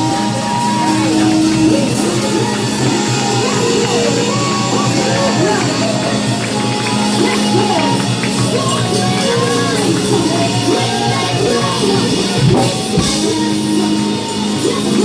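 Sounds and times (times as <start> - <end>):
people singing: 0.0 - 15.0
worship band with drum kit: 0.0 - 15.0.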